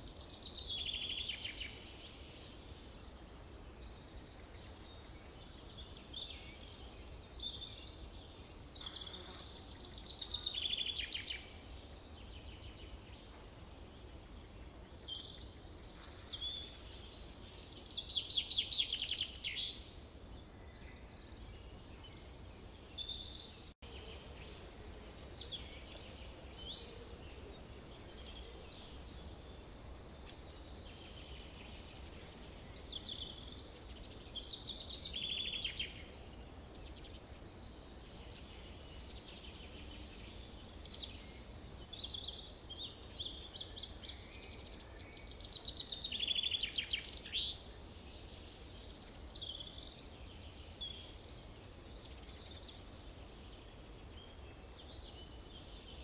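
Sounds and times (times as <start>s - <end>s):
bird trilled songs: 0.0s - 13.3s, 13.9s - 56.0s.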